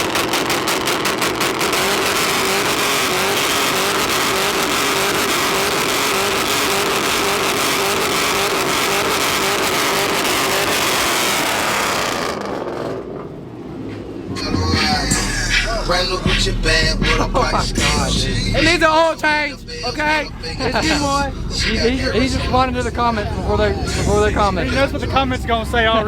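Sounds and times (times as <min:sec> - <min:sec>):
truck engine roaring at high revs: 0:00.0 - 0:26.0.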